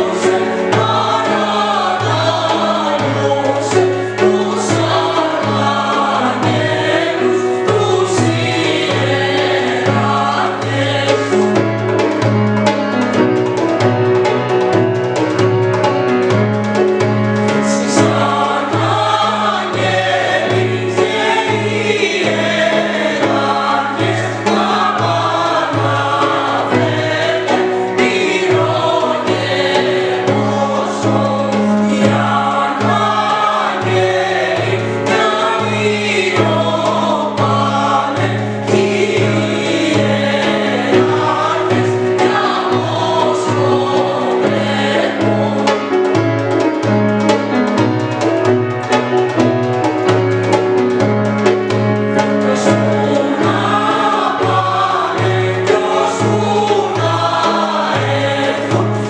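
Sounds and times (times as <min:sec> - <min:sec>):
mixed choir singing a carol: 0:00.0 - 0:59.0.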